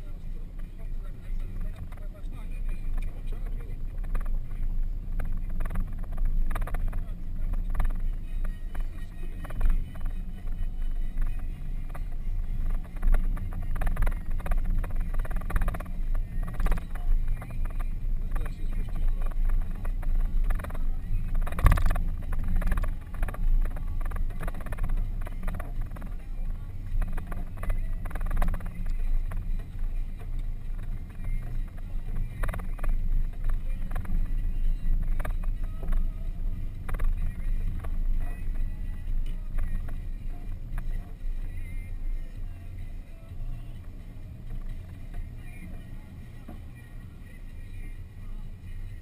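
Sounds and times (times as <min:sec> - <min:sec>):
vehicle engine low rumble: 0:00.0 - 0:49.0.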